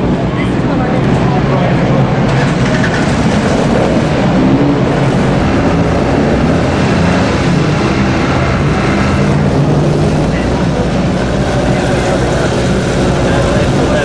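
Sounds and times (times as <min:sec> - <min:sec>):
dense background noise: 0:00.0 - 0:14.0
vehicle engine humming: 0:00.0 - 0:14.0.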